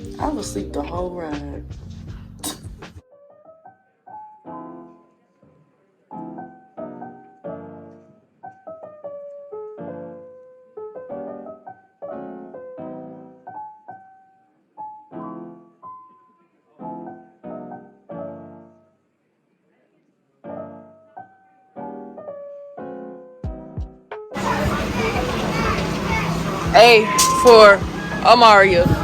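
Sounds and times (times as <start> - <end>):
solo piano music: 3.0 - 19.0, 20.4 - 29.0.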